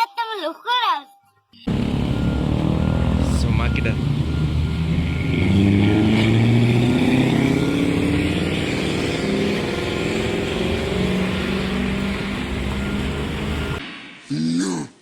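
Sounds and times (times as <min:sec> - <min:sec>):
vehicle engine revving: 0:01.7 - 0:13.8.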